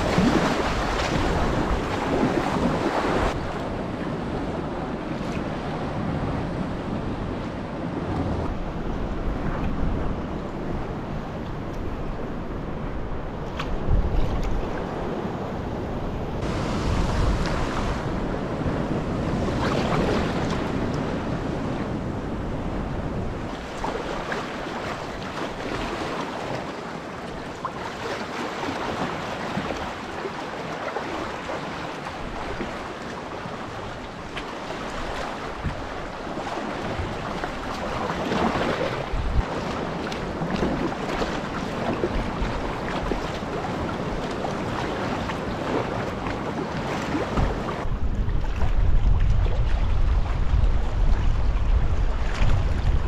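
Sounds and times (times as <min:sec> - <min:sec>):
wind buffeting microphone: 0:00.0 - 0:26.6, 0:32.2 - 0:53.0
water splashing around a kayak: 0:00.0 - 0:53.0.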